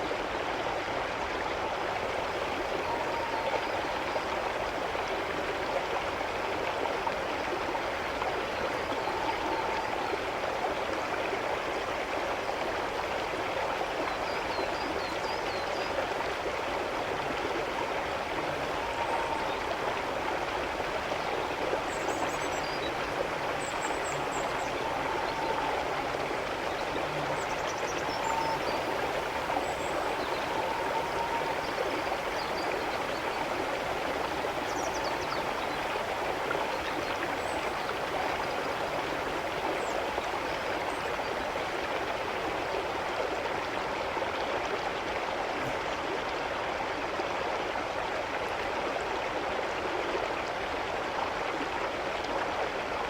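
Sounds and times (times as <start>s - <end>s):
stream of running water: 0.0s - 53.0s.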